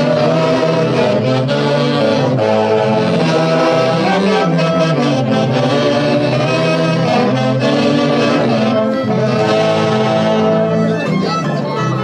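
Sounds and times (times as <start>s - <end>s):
saxophones and brass band: 0.0s - 12.0s.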